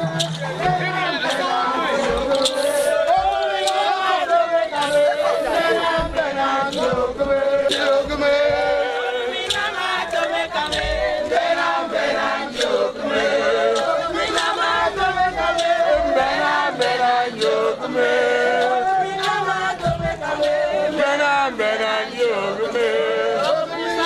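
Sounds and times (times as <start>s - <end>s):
group singing and chanting: 0.0s - 24.0s.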